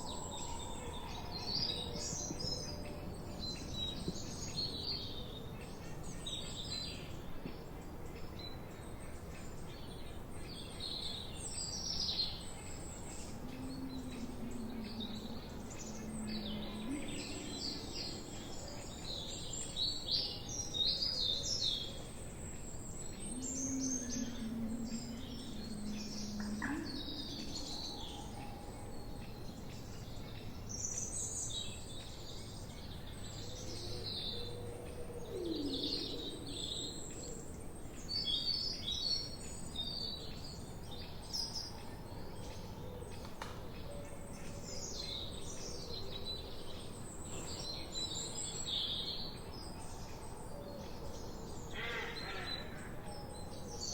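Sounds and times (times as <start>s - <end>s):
songbirds chirping and singing: 0.0s - 53.9s
steady background hiss: 2.1s - 53.9s.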